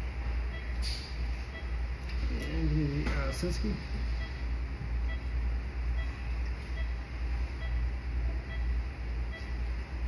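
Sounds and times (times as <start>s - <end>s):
low room and equipment rumble: 0.0s - 10.0s
electronic monitor beeping: 0.4s - 2.0s, 3.3s - 10.0s.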